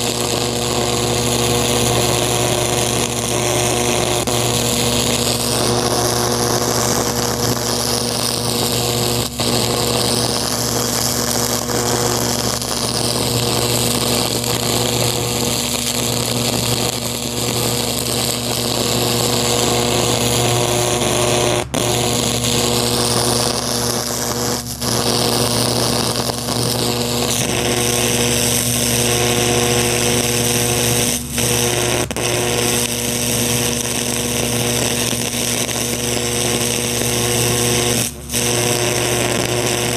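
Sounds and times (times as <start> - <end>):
electric arc buzzing and crackling: 0.0 - 39.9.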